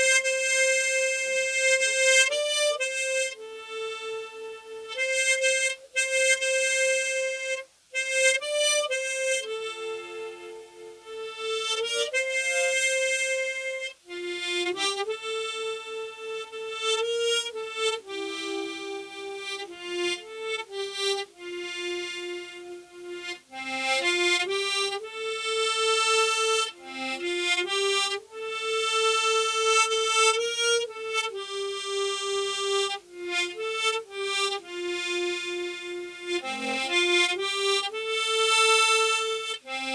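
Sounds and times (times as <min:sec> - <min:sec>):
harmonica playing slow melody: 0:00.0 - 0:39.9.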